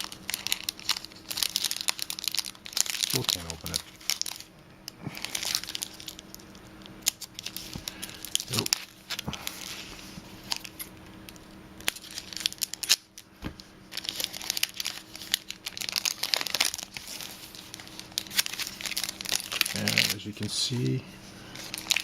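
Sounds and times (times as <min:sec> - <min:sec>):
foil wrapper crinkling and tearing: 0:00.0 - 0:22.0.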